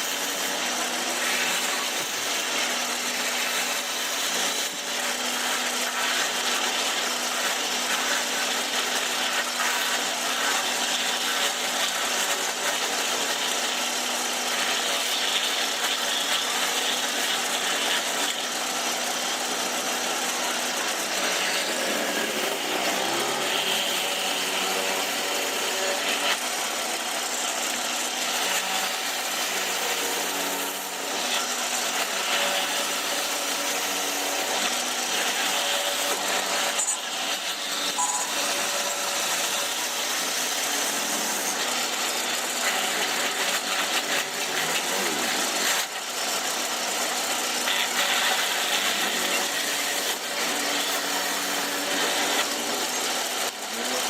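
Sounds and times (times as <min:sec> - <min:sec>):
power tool cutting wood: 0:00.0 - 0:54.0.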